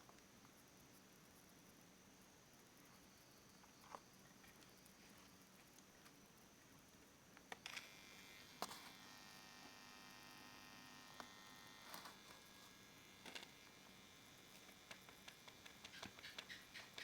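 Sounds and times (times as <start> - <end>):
faint electrical buzz from speaker: 0.0 - 17.0.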